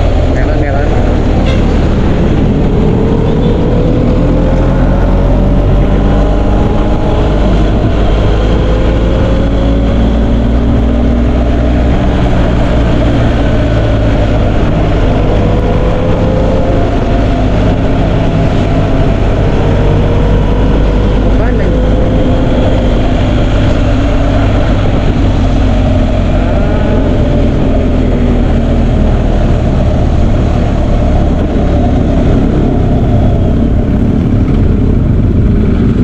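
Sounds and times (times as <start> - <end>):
motorcycle engine running: 0.0 - 36.0
wind rush: 0.0 - 36.0.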